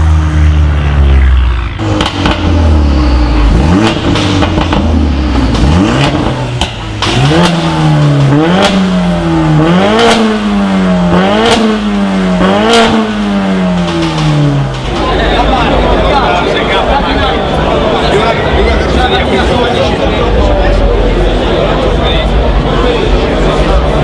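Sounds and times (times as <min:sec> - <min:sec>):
car engine revving: 0:00.0 - 0:24.0
exhaust crack: 0:00.0 - 0:24.0.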